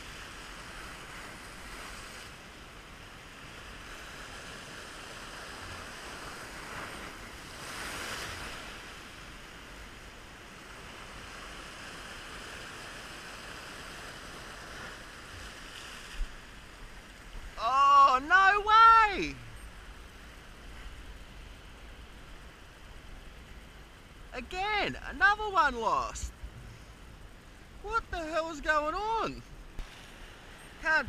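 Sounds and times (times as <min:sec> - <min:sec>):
ocean surf washing around rocks: 0:00.0 - 0:26.2, 0:27.0 - 0:31.0.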